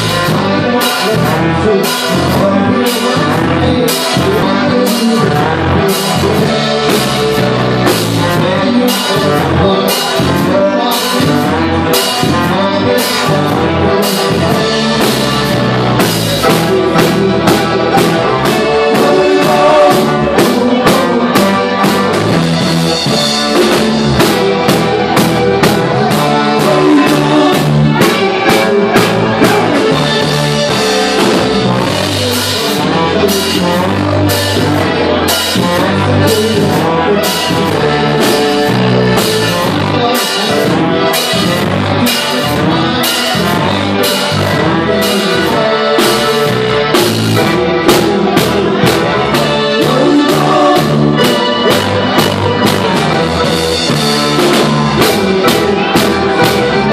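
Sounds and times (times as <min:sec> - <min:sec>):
live rock band playing: 0:00.0 - 0:56.9
man singing: 0:00.0 - 0:56.9.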